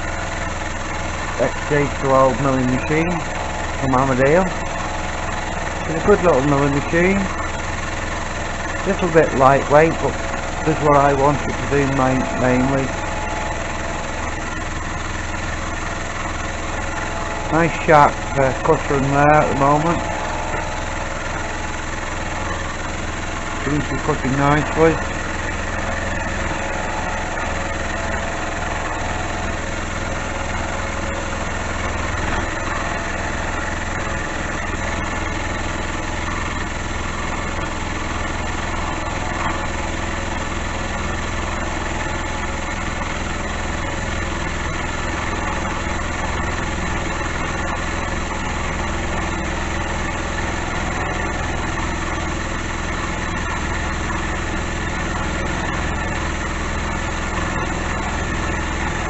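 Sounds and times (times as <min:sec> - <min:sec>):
milling machine cutting: 0:00.0 - 0:59.0
motor power feed: 0:00.0 - 0:59.0.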